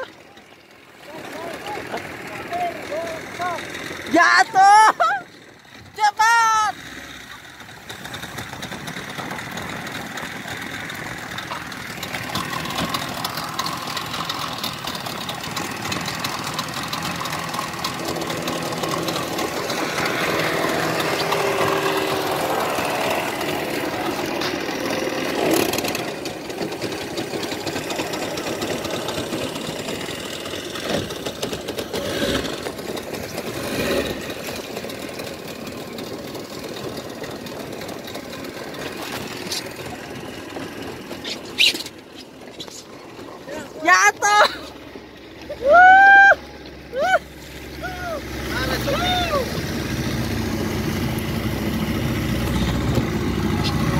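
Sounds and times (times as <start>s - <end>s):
motorboat engine idling: 0.0s - 53.9s
water noise: 0.0s - 53.9s
wind: 0.0s - 53.9s.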